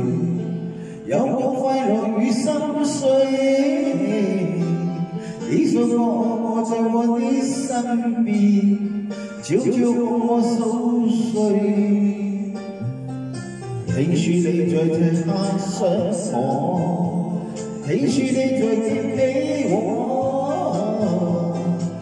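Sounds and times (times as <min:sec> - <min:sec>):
song melody with vibrato: 0:00.0 - 0:22.0.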